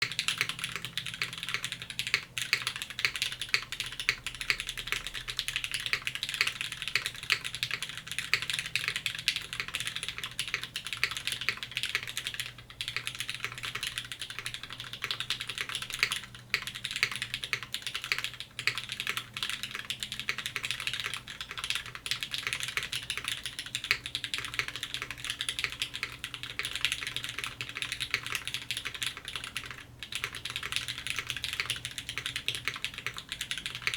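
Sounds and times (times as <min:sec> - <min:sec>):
fast typing on mechanical keyboard: 0:00.0 - 0:33.9.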